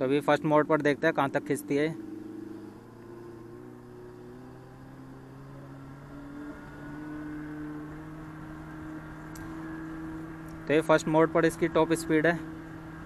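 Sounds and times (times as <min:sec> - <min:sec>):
artificial motorcycle engine sound rising: 0:01.2 - 0:13.0.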